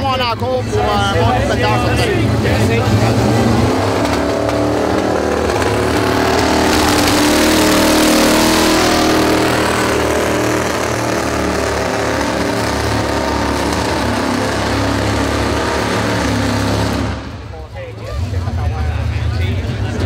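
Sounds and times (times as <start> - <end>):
truck engine revving under load: 0.7 - 19.1.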